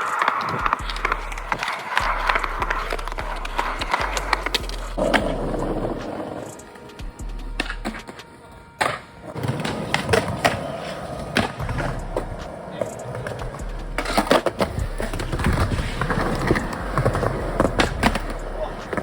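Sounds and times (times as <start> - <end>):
skateboard clacks: 0.0 - 19.0
skateboard wheels rumbling: 0.0 - 19.0.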